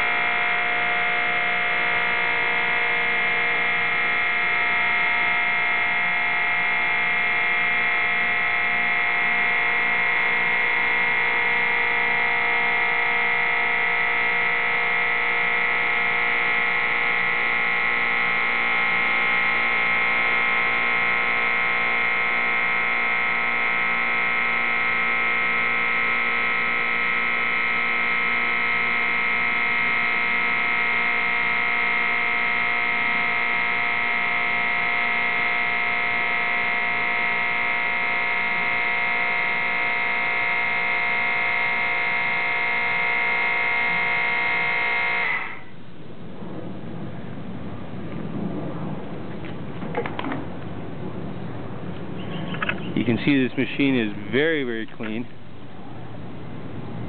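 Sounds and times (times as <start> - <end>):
hydraulic pump motor whine: 0.0 - 45.9.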